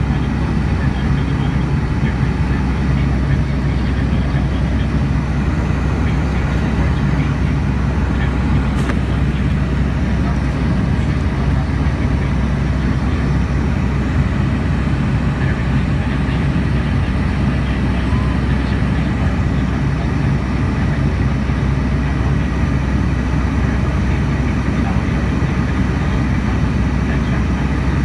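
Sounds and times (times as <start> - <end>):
airplane cabin drone: 0.0 - 28.0.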